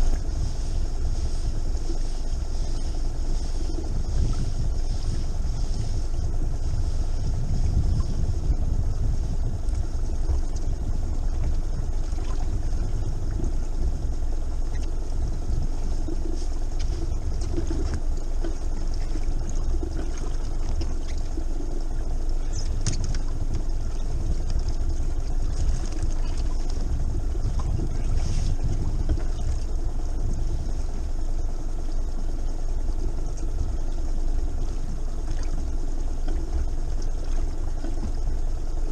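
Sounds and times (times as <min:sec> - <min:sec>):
boat engine idling: 0:00.0 - 0:38.9.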